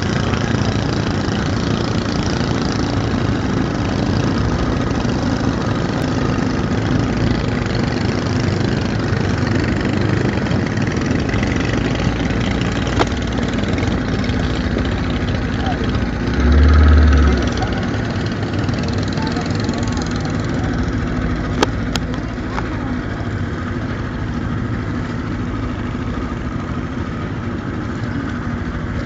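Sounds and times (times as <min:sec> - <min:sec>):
small boat motor running: 0:00.0 - 0:29.0.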